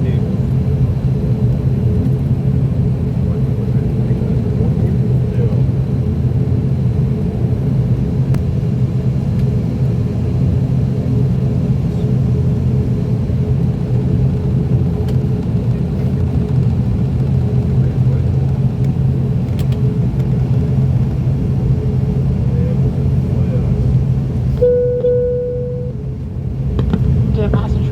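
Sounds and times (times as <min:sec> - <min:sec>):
turboprop cabin drone: 0:00.0 - 0:27.9.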